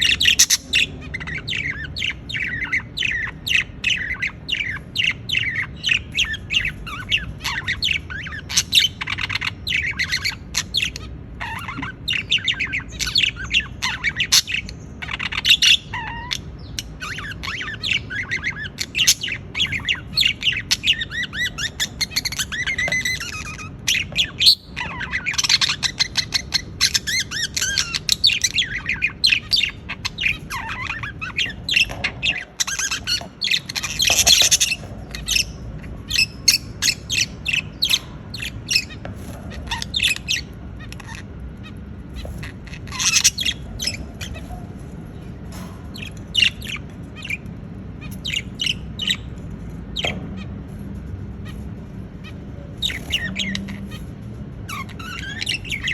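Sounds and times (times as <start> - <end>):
budgerigars chirping and squawking: 0.0 - 55.9
low steady hum: 0.0 - 55.9.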